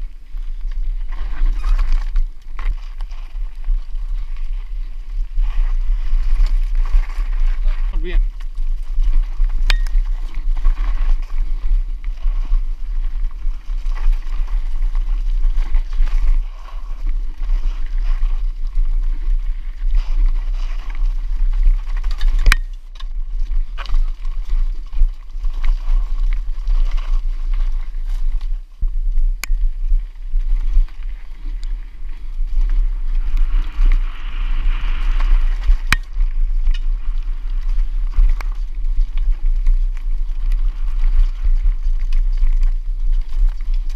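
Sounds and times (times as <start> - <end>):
mountain bike rattling: 0.0 - 43.9
wind rumbling on microphone: 0.0 - 43.9.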